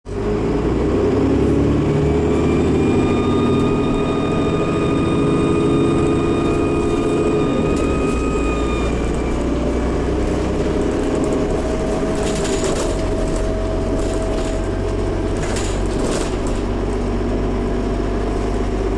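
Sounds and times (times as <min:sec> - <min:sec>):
bus engine drone: 0:00.0 - 0:18.9
turbocharger whine: 0:00.1 - 0:18.9.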